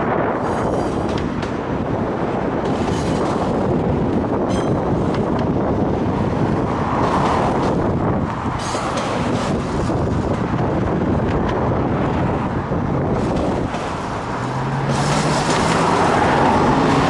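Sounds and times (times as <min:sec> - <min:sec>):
steel wheels rumbling on rail: 0:00.0 - 0:17.0
wind buffeting microphone: 0:00.0 - 0:17.0.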